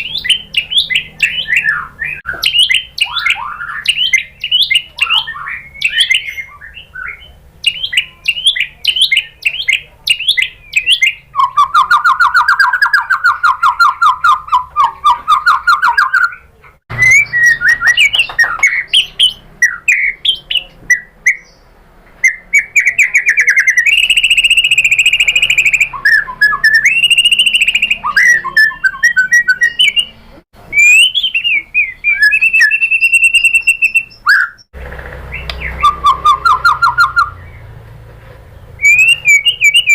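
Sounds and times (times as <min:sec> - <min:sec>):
long buzzy bird trill: 0:00.0 - 0:37.8, 0:38.6 - 0:39.9
songbird singing: 0:00.0 - 0:39.9.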